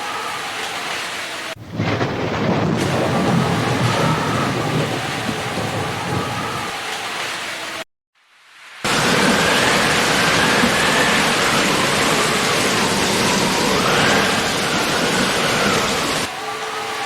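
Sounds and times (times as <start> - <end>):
heavy rain pouring: 0.0 - 7.8, 8.5 - 17.0.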